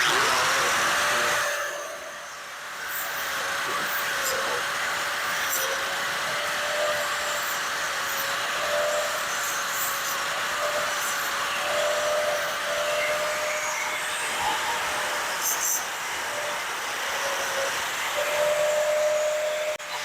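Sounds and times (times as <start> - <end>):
machine motor whine: 0.0 - 20.0.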